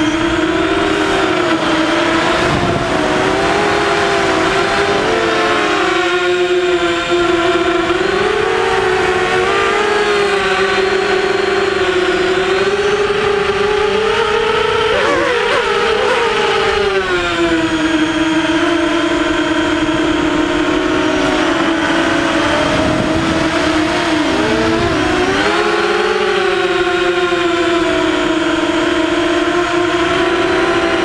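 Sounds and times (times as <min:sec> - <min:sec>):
quadcopter motors buzzing whine: 0:00.0 - 0:31.0.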